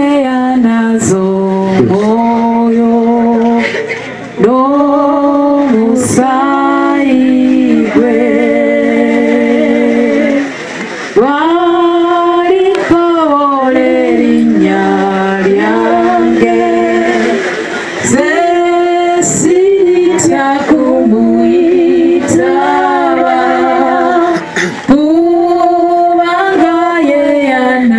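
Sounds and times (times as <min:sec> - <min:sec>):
voices singing in harmony: 0:00.0 - 0:27.9.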